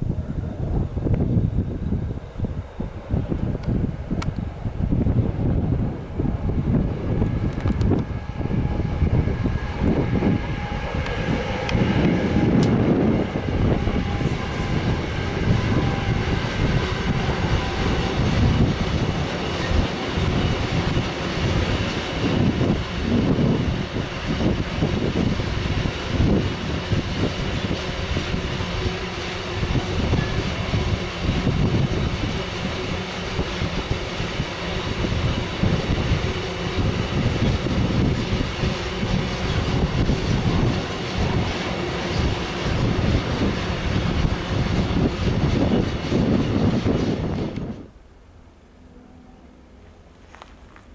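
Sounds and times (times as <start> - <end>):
freight train rolling past: 0.0 - 50.9
wheels rumbling on rails: 0.0 - 50.9.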